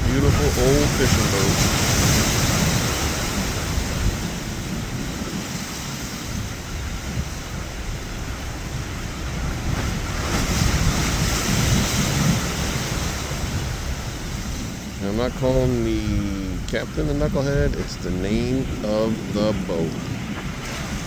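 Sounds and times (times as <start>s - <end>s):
surf washing: 0.0s - 21.0s
wind buffeting microphone: 0.0s - 21.0s.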